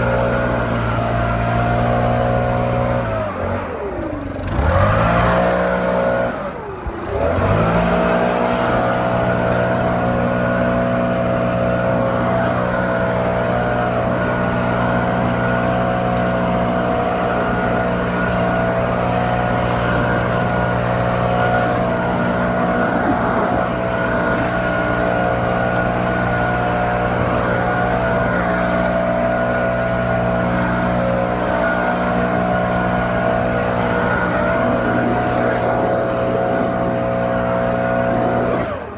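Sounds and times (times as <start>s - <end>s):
leaf blower running: 0.0s - 38.9s.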